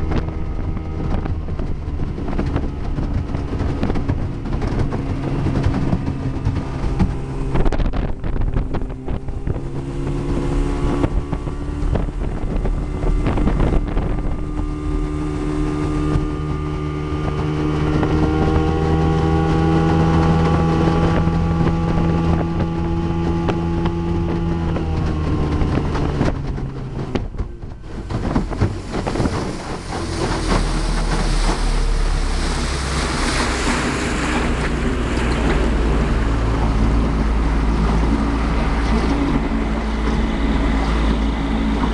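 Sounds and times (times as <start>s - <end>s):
outboard motor running: 0.0s - 41.9s
water noise: 0.0s - 41.9s
wind on microphone: 0.0s - 41.9s.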